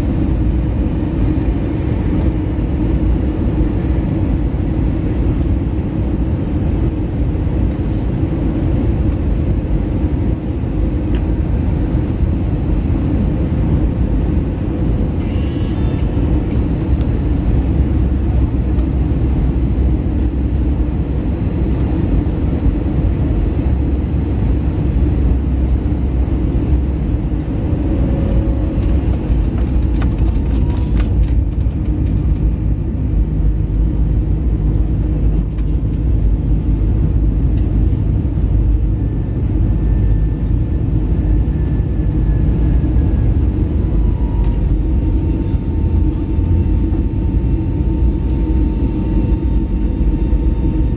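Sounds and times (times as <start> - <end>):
jet airliner in flight rumble: 0.0 - 50.9.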